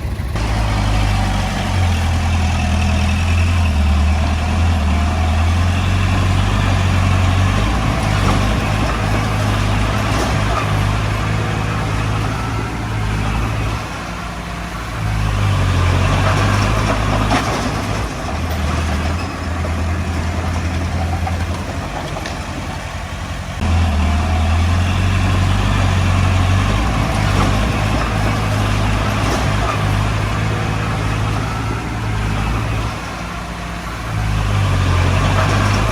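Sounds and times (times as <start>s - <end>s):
bulldozer diesel engine working: 0.0s - 35.9s.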